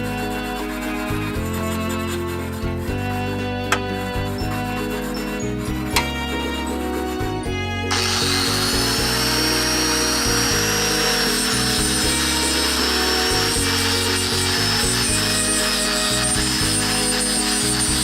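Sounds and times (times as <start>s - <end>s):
background music: 0.0s - 18.0s
buffer whining: 0.0s - 18.0s.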